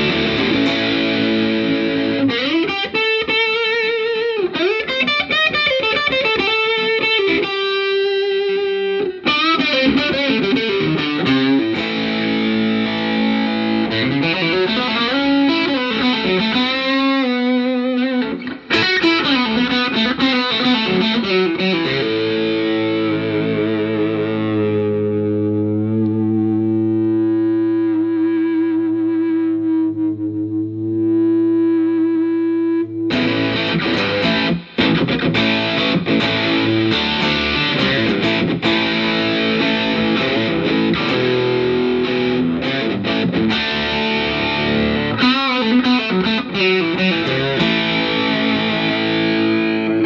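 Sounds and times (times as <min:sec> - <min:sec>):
guitar chord ringing: 0:00.0 - 0:26.4, 0:33.1 - 0:50.0
distorted electric guitar lead: 0:00.0 - 0:50.0.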